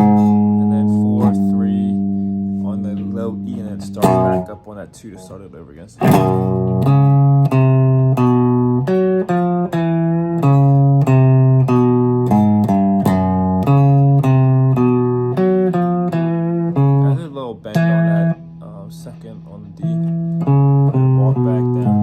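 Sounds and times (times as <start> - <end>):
electric guitar low riff: 0.0 - 5.4, 6.0 - 22.0.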